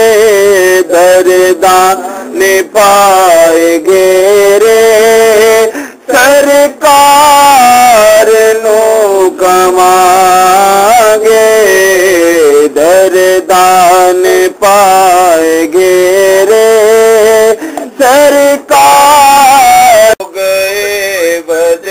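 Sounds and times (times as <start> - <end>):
person singing slow song: 0.0 - 21.9.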